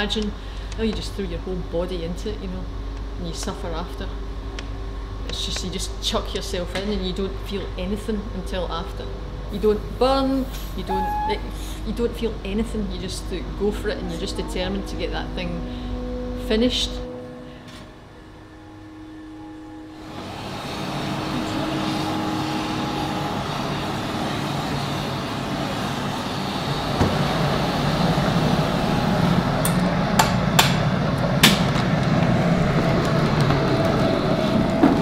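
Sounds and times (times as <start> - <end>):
gas flame and furnace roaring: 0.0 - 35.0.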